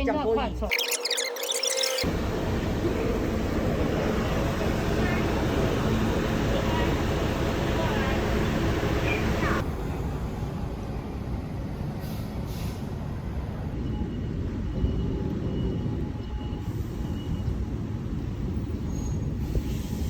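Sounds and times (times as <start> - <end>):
train rumbling inside carriage: 2.1 - 20.0.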